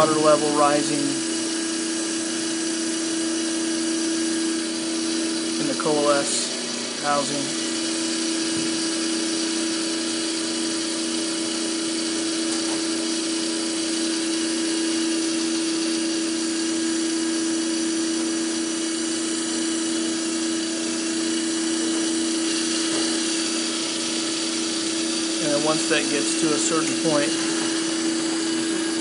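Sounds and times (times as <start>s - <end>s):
electric pump motor humming: 0.0s - 29.0s.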